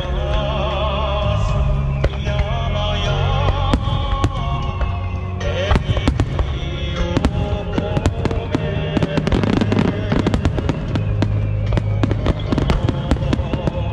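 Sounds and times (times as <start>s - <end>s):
fireworks bursting: 0.0s - 13.9s
music playing: 0.0s - 13.9s.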